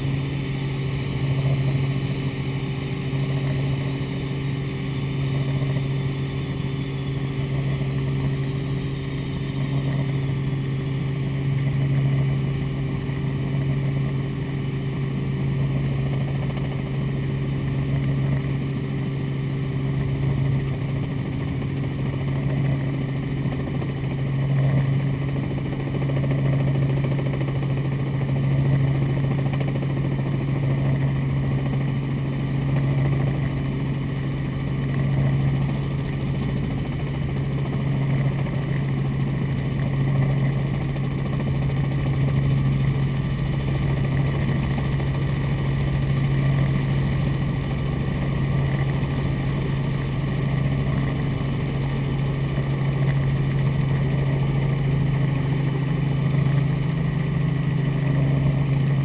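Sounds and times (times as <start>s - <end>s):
helicopter engine and rotors droning: 0.0s - 59.0s.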